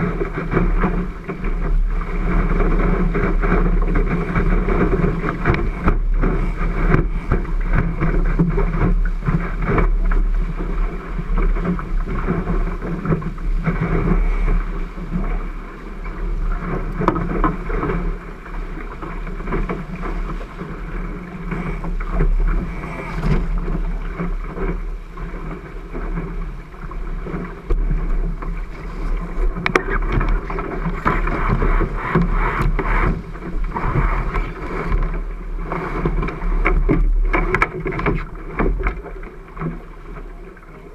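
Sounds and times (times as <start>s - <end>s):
water rushing along a boat hull: 0.0s - 40.9s
wind rumble on microphone: 0.0s - 40.9s.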